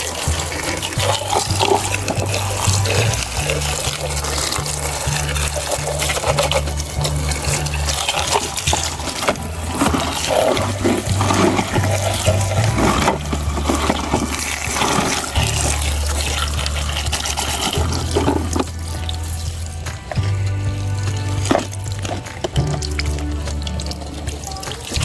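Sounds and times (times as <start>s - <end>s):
background music with bass line: 0.0s - 25.0s
water running and splashing: 0.0s - 25.0s.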